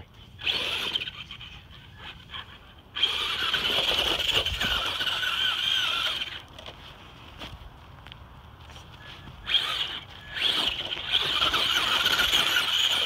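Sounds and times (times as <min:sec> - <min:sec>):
toy truck motor whining: 0:00.0 - 0:06.5, 0:09.0 - 0:13.0
wheels throwing dirt: 0:00.0 - 0:07.9, 0:08.6 - 0:13.0.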